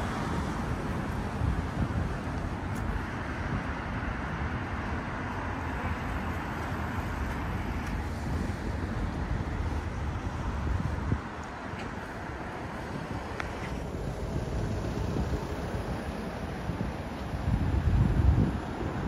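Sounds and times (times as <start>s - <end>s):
city road traffic: 0.0s - 19.0s.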